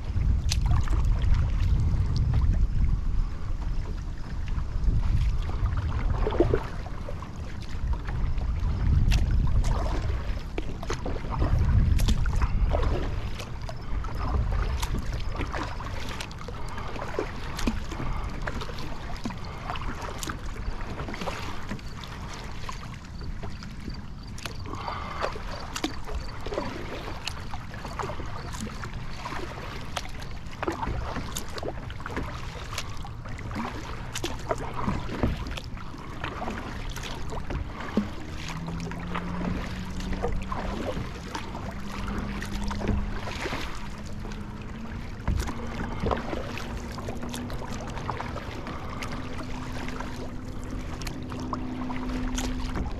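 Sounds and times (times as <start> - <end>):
small splashes and knocks: 0.0 - 2.6, 4.8 - 52.9
water lapping against kayak: 0.0 - 52.9
wind rumble on microphone: 0.0 - 52.9.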